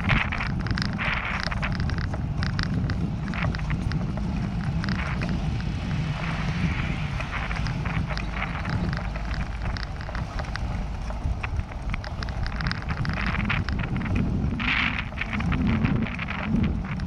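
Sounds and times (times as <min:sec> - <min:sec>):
bike rattling over brick paving: 0:00.0 - 0:17.0
wind buffeting microphone: 0:00.0 - 0:17.0.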